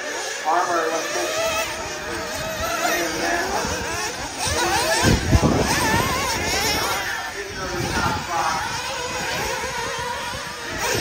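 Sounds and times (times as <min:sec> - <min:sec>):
rc buggy engines buzzing: 0:00.0 - 0:11.0.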